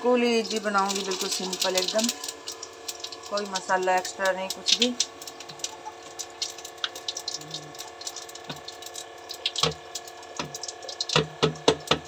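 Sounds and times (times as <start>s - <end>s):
seeds crackling in hot oil: 0.0s - 12.0s.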